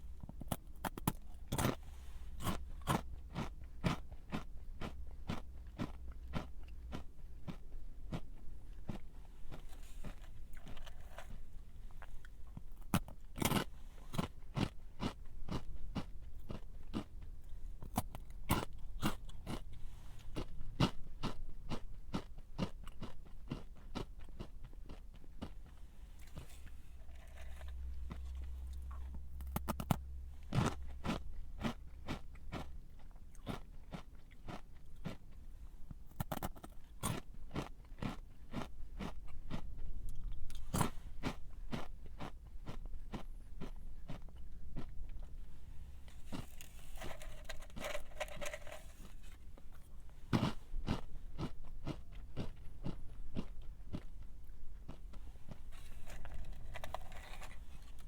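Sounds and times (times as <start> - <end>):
crunchy snack being chewed: 0.1 - 45.5, 46.1 - 58.0.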